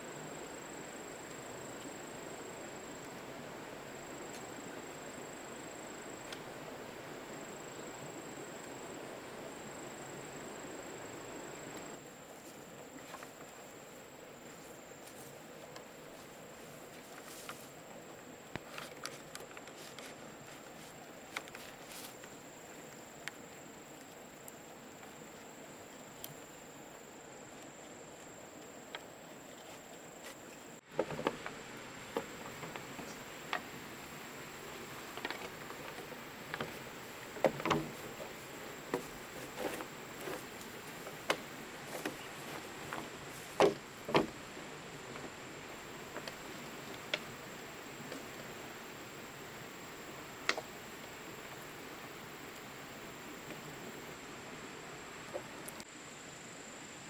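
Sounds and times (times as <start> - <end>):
faint hiss: 0.0 - 57.0.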